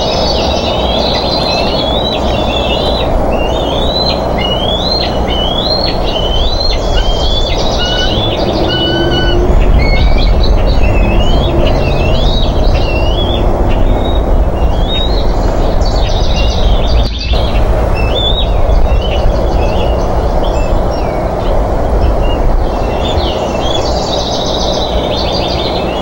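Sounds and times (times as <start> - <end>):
birds chirping and whistling: 0.0 - 26.0
low outdoor rumble: 0.0 - 26.0.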